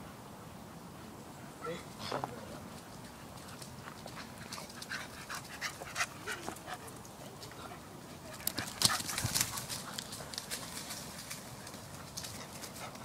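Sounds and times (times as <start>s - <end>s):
dogs scuffling at play: 1.9s - 13.0s.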